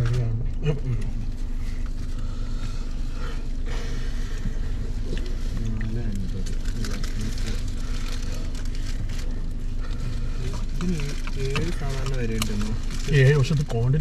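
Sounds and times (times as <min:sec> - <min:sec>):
people talking: 0:00.0 - 0:01.4, 0:02.2 - 0:14.0
low rumble and hum: 0:00.0 - 0:14.0.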